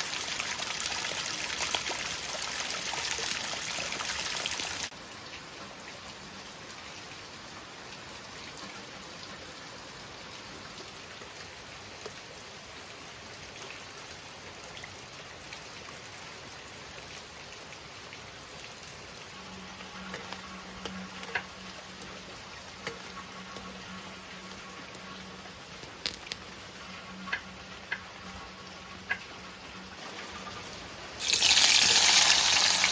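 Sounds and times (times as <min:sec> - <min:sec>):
light rain pattering: 0:00.0 - 0:32.9.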